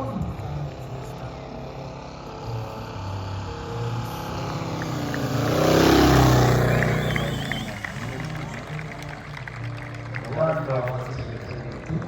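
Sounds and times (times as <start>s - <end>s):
propeller plane passing low: 0.0s - 12.0s.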